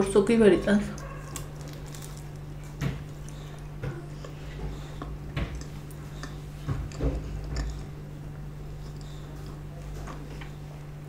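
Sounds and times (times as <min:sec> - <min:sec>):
low steady hum: 0:00.0 - 0:11.0
wet chewing clicks: 0:00.9 - 0:10.6.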